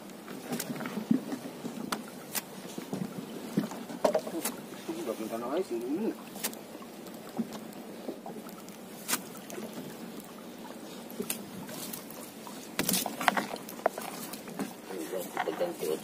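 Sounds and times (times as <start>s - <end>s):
net hauled over boat side: 0.0s - 16.0s
water splashing and dripping: 0.0s - 16.0s.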